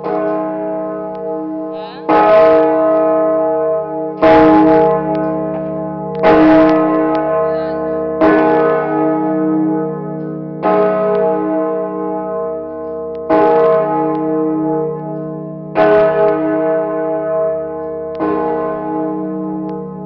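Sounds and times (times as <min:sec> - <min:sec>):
large church bell ringing: 0:00.0 - 0:20.0.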